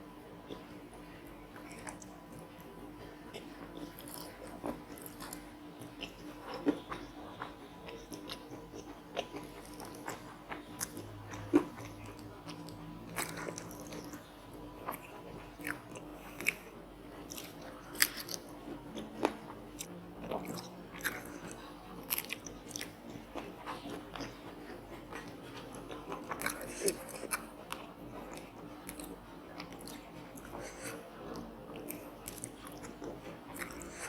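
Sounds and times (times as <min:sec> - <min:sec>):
person chewing crunchy fried food: 0:00.4 - 0:34.0.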